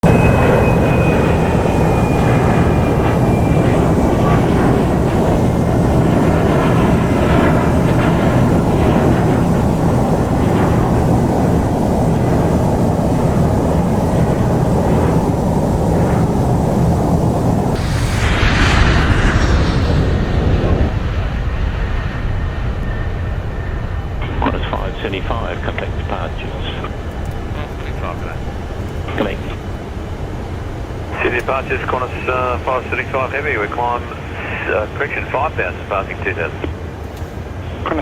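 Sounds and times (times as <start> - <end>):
jet engines at high power: 0.0 - 38.0.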